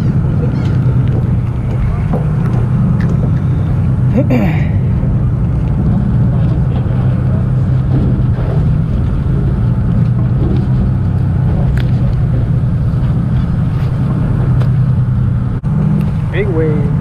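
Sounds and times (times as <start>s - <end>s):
boat engine humming: 0.0s - 17.0s
sea noise: 0.0s - 17.0s
wind: 0.0s - 17.0s.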